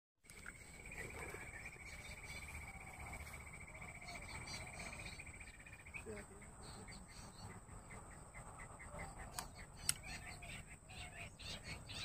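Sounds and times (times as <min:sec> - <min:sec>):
faint bird calls: 0:00.3 - 0:12.0.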